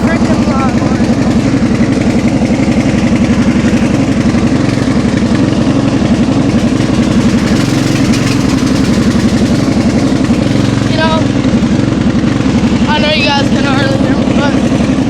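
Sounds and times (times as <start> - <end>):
lawnmower engine running: 0.0 - 15.0.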